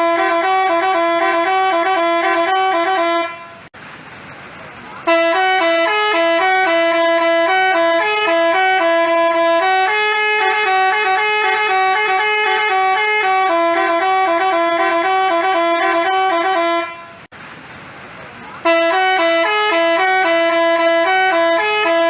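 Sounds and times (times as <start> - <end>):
bus horn playing melody: 0.0 - 3.7, 5.0 - 17.3, 18.6 - 22.0.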